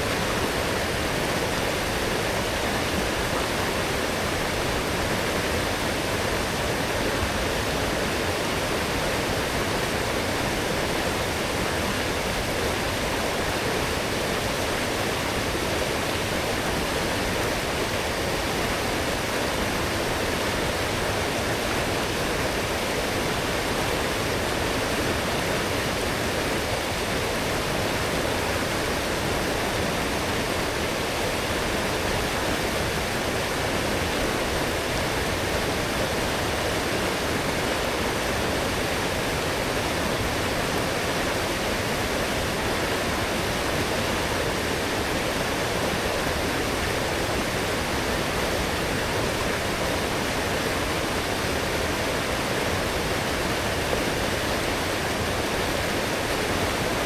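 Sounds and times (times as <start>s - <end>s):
stream rushing water: 0.0s - 57.0s.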